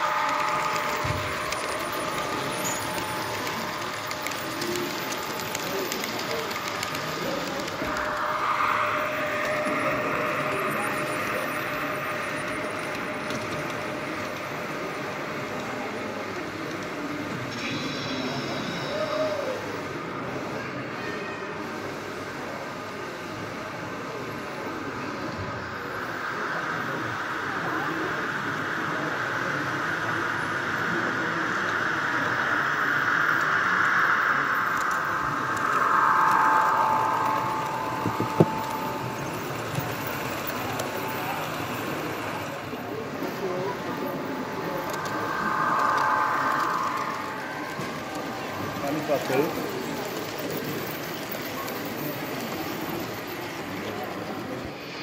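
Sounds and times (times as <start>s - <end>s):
model train rolling on track: 0.0s - 55.0s
noise of busy hall: 0.0s - 55.0s
steady whine: 0.0s - 55.0s.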